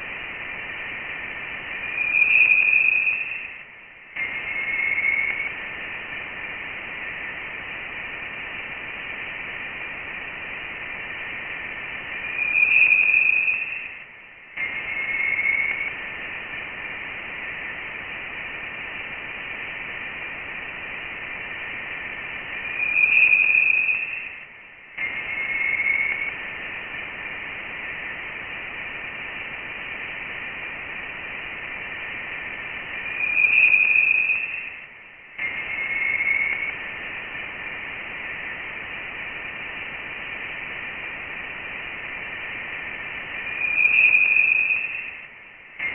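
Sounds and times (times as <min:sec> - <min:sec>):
loud whine: 0:00.0 - 0:45.9
static hiss: 0:00.0 - 0:45.9.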